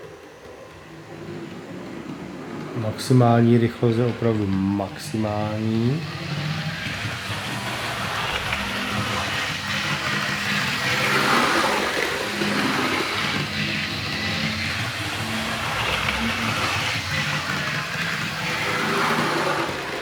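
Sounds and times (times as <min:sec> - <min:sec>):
model train motor whirring: 0:00.0 - 0:20.0
wheels rolling on rails: 0:00.0 - 0:20.0.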